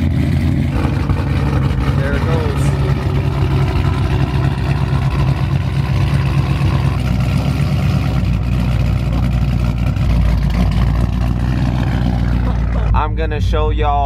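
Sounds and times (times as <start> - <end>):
car engine idling loud: 0.0 - 14.0.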